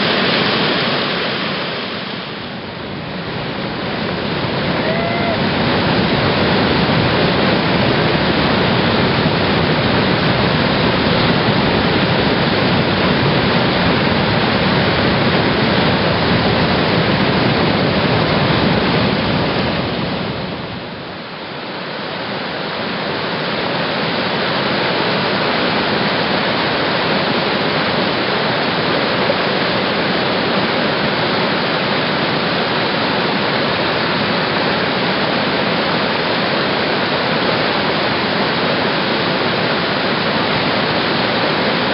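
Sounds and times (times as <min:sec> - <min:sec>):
whitewater rushing: 0:00.0 - 0:41.9.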